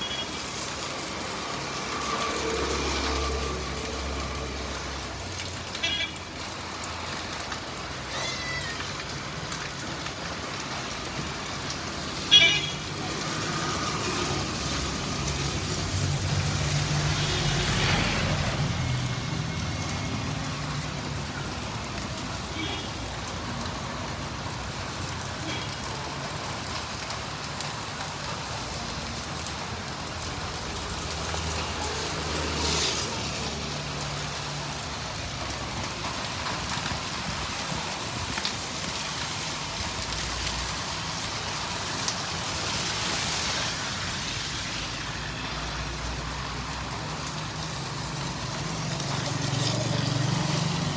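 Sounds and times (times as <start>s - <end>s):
rain falling: 0.0s - 50.9s
vehicles passing on wet roads: 0.0s - 50.9s.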